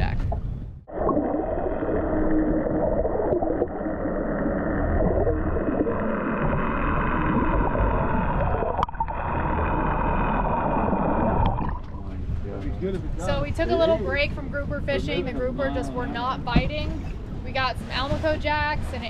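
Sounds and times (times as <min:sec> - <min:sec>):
underwater rumble and gurgle: 0:00.0 - 0:19.0.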